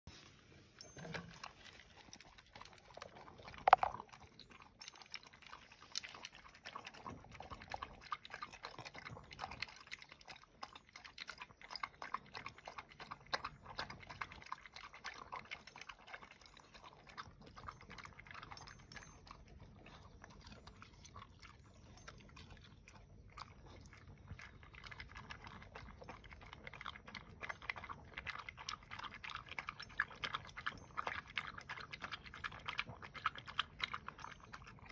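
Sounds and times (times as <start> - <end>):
dog crunching kibble: 1.1 - 34.9.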